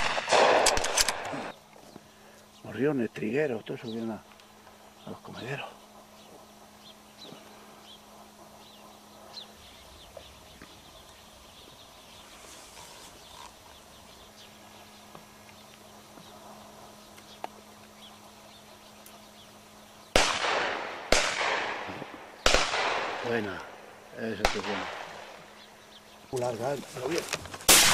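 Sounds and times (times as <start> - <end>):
low steady hum: 0.0 - 27.9
small birds chirping: 1.1 - 20.6, 21.9 - 27.7.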